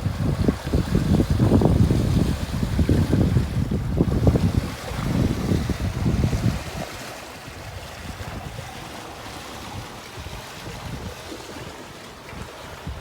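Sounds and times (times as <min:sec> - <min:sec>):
water rushing past boat: 0:00.0 - 0:13.0
wind buffeting microphone: 0:00.0 - 0:13.0.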